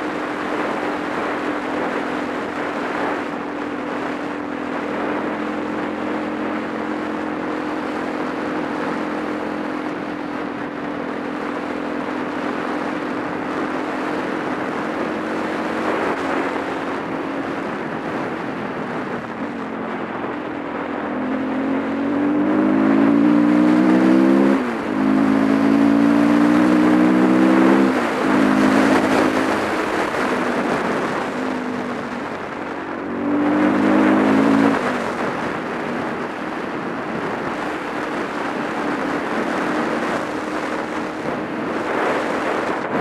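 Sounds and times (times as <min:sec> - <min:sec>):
motorcycle engine accelerating: 0:00.0 - 0:43.0
wind noise: 0:00.0 - 0:43.0.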